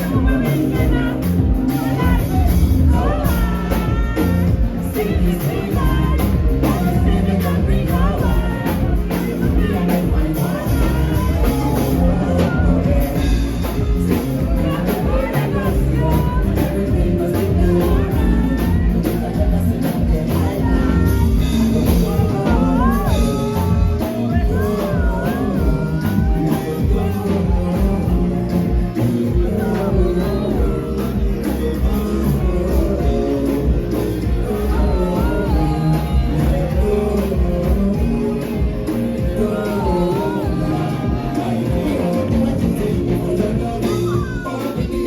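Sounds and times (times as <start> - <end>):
dense bass line: 0.0 - 45.0
song with sung vocal: 0.0 - 45.0.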